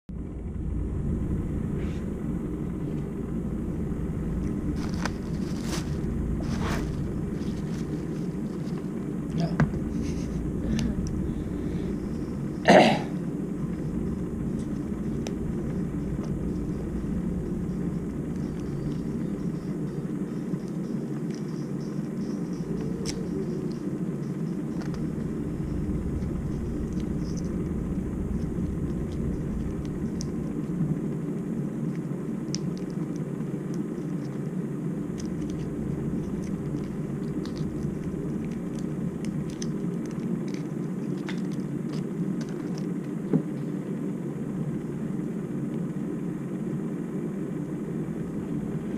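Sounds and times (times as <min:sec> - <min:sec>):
low rumbling noise: 0:00.1 - 0:48.9.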